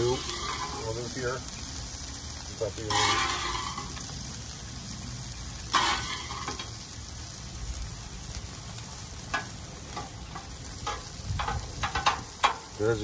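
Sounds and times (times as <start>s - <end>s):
food sizzling on griddle: 0.0s - 13.0s.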